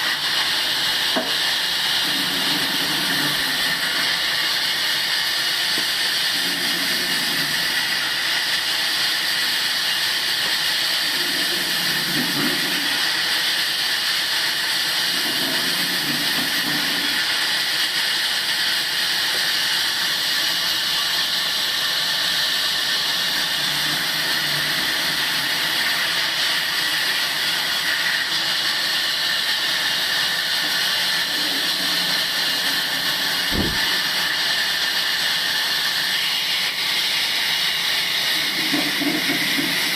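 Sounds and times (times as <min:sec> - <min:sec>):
sawmill hissing rush: 0:00.0 - 0:39.9.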